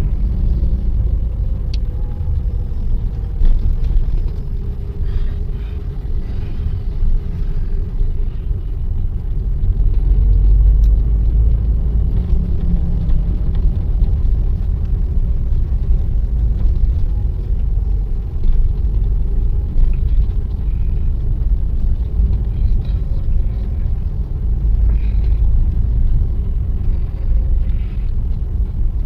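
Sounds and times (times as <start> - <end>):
car engine and road rumble: 0.0 - 29.0.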